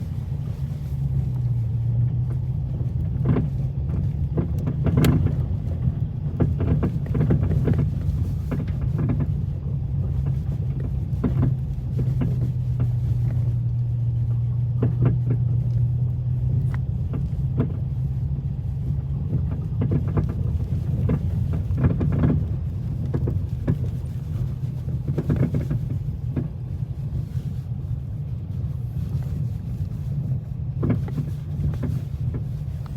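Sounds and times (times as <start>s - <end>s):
car engine and road noise: 0.0s - 32.9s
suspension clunks: 0.0s - 32.9s.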